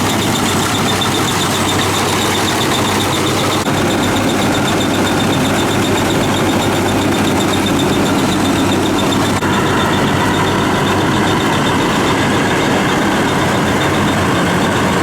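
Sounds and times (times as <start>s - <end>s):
harvester engine droning: 0.0s - 15.0s
high rapid chirping pulse: 0.0s - 15.0s.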